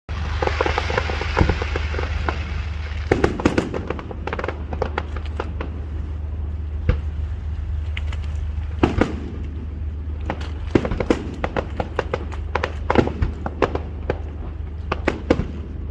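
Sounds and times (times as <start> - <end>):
fireworks crackling and banging: 0.0 - 15.9
low rumble: 0.0 - 15.9
deep firework boom: 0.1 - 7.4, 8.6 - 15.9.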